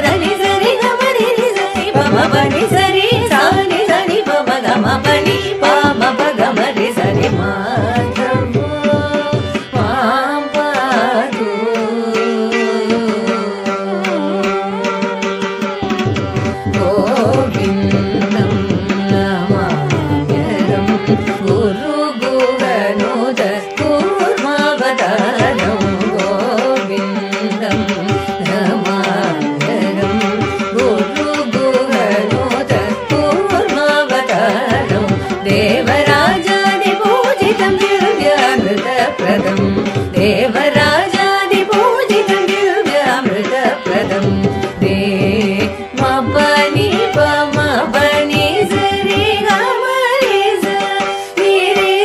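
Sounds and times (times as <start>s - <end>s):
mridangam drum strokes: 0.0s - 52.0s
violin: 0.0s - 52.0s
women singing: 0.0s - 52.0s.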